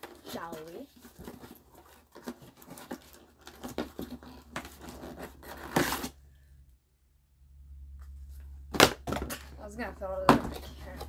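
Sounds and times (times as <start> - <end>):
cardboard rustling and scraping: 0.0 - 6.2, 8.0 - 11.0.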